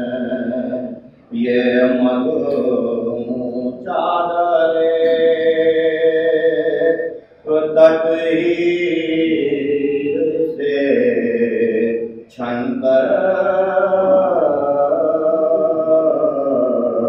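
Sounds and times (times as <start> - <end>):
person singing mournful elegy: 0.0 - 17.0.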